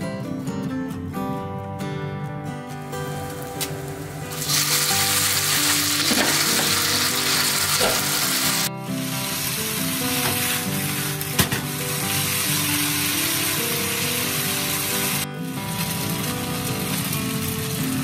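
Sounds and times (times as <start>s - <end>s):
soft background music: 0.0s - 18.0s
loud sizzling in a frying pan: 3.1s - 18.0s.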